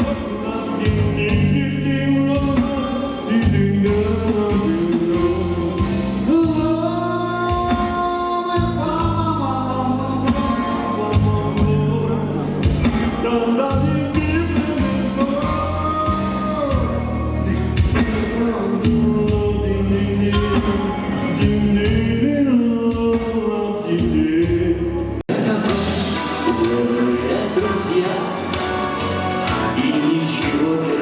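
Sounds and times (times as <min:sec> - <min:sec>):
pop song with singing: 0:00.0 - 0:31.0.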